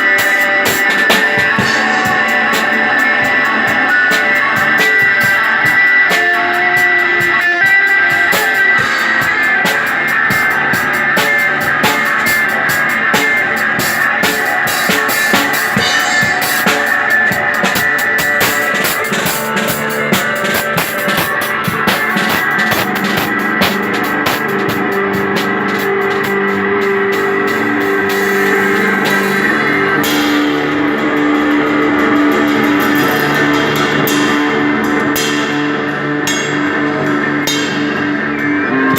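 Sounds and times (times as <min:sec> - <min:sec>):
drums and cymbals: 0:00.0 - 0:38.9
electric guitar playing: 0:00.0 - 0:38.9.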